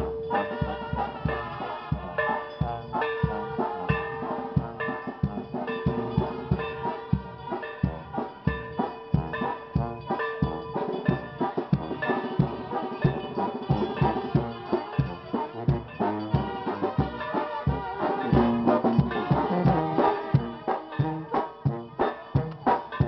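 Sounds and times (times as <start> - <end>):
drums keeping steady beat: 0.0 - 23.0
sustained melody notes: 0.0 - 23.0.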